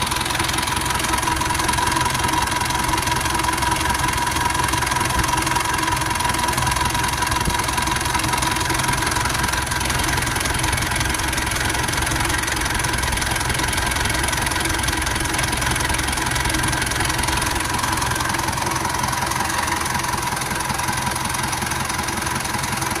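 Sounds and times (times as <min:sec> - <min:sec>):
engine idling roughly: 0:00.0 - 0:23.0.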